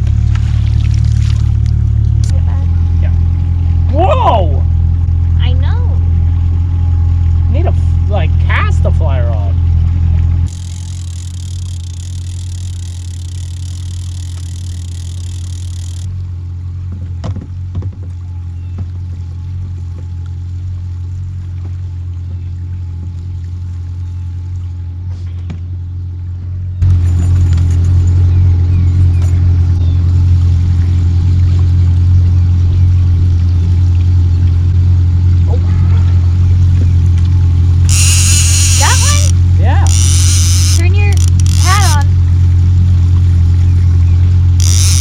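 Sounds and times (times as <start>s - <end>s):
outboard motor droning: 0.0s - 45.0s.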